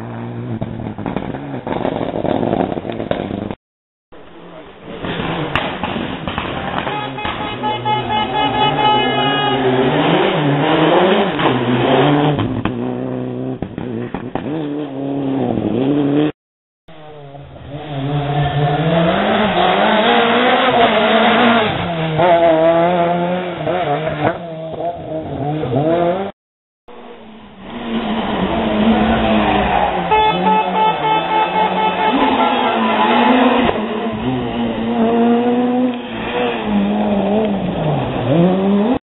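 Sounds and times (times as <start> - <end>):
rally car engines revving: 4.2 - 16.3, 16.9 - 26.3, 26.9 - 39.0.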